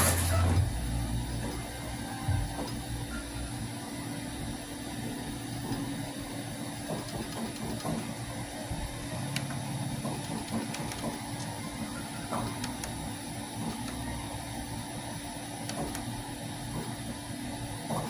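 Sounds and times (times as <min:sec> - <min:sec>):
printer fans and motors humming: 0:00.0 - 0:18.0.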